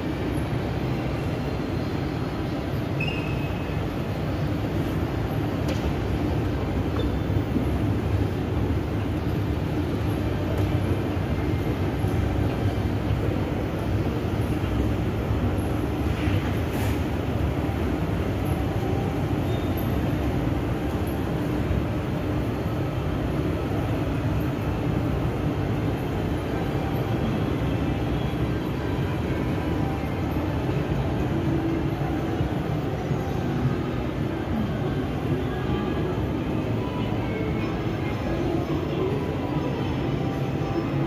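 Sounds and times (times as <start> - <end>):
low rumbling ambient noise: 0.0 - 41.0.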